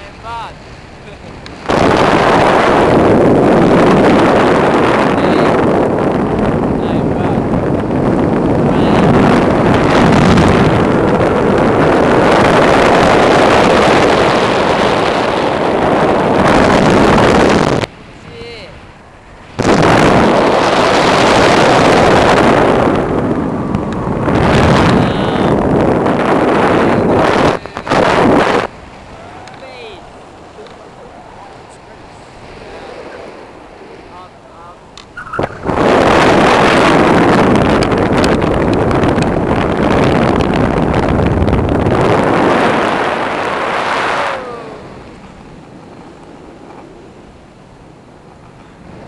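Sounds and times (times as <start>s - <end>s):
loud wind buffeting microphone: 0.0s - 49.0s.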